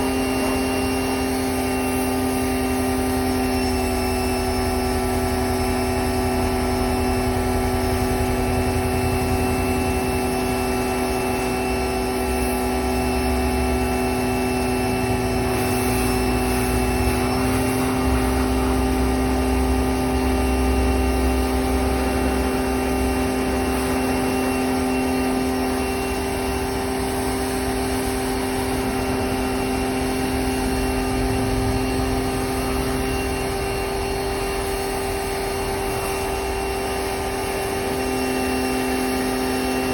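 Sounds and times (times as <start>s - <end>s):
motor running steadily: 0.0s - 39.9s.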